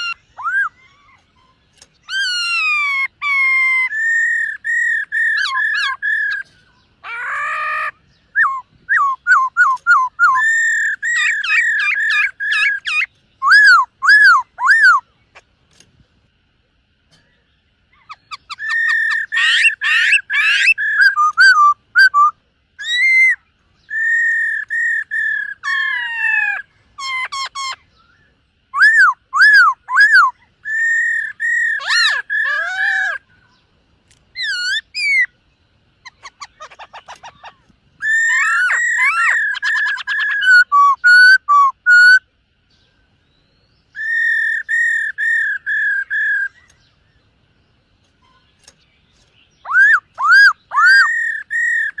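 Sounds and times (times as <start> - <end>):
bird singing whistled phrases: 0.0 - 15.1, 18.0 - 33.2, 34.4 - 35.3, 36.0 - 42.3, 43.2 - 46.8, 49.6 - 52.0.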